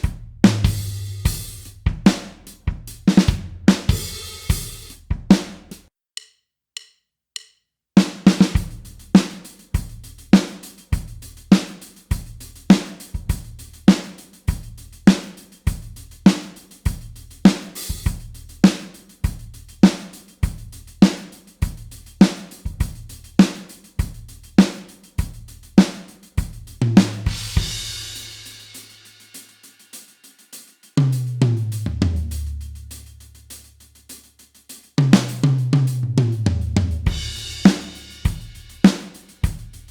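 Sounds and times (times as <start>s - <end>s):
rock drum kit beat: 0.0s - 5.9s, 8.0s - 39.9s.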